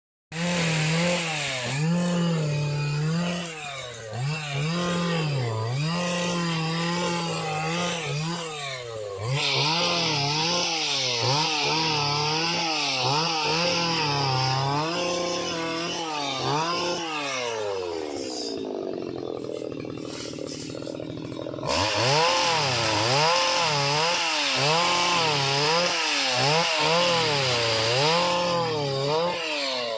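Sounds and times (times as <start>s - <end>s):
pruner engine revving: 0.3s - 29.9s.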